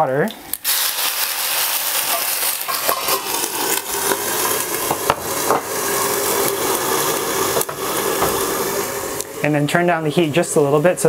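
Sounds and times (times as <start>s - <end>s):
oil popping and crackling: 0.5s - 9.4s
eggplant sizzling in hot oil: 0.5s - 9.7s.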